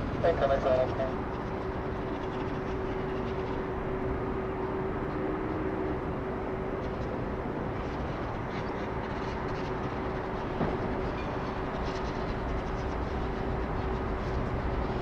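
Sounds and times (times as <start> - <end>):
constant hum: 0.0 - 15.0
jet engines rumbling: 0.0 - 15.0.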